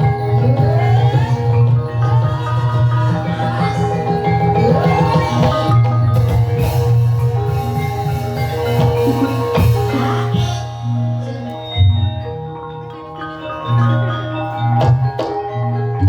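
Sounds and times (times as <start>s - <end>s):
gamelan mallet instruments: 0.0s - 16.0s.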